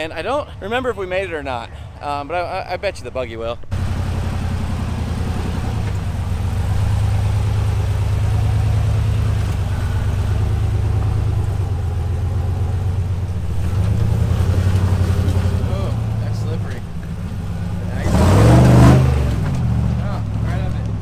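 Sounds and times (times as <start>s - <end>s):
buggy engine running at low revs: 3.6s - 21.0s.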